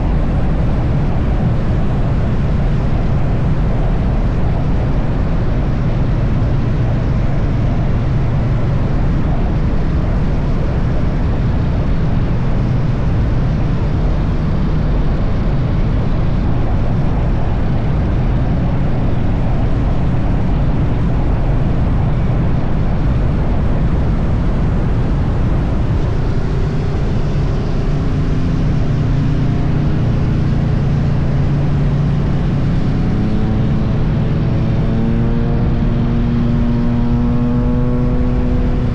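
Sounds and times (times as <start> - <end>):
heavy wind noise: 0.0 - 38.9
motorcycle engine cruising: 0.0 - 38.9.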